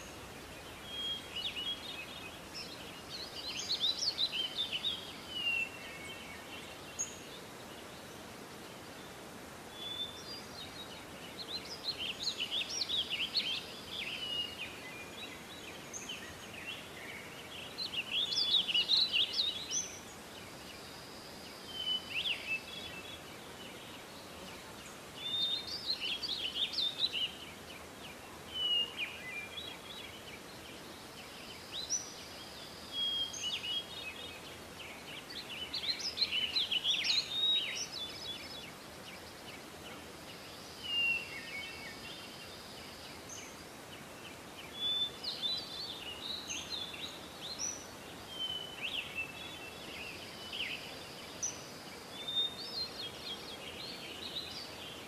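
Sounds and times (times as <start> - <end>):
outdoor background hiss: 0.0 - 55.0
songbird chirping: 0.0 - 55.0.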